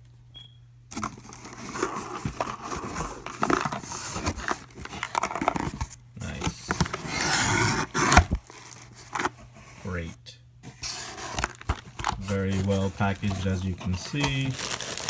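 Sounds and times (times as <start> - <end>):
packing crinkling and rustling: 0.9 - 9.6, 10.7 - 15.0
cardboard box tearing: 1.0 - 9.4, 10.7 - 15.0.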